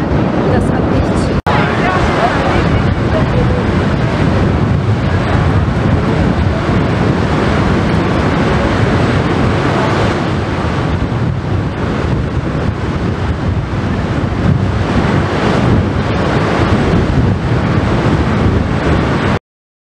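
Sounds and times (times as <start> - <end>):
propeller wash churning: 0.0 - 19.4
wind buffeting microphone: 0.0 - 19.4.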